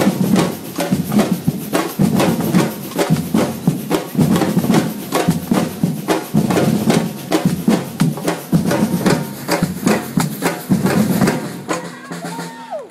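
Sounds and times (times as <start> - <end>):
drum ensemble playing fast rhythm: 0.0 - 12.8.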